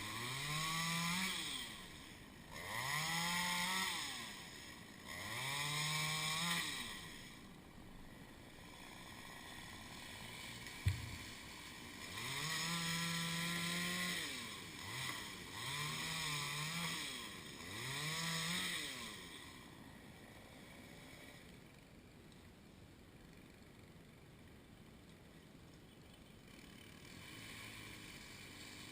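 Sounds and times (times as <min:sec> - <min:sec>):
chainsaw revving: 0:00.0 - 0:21.8, 0:26.5 - 0:28.9.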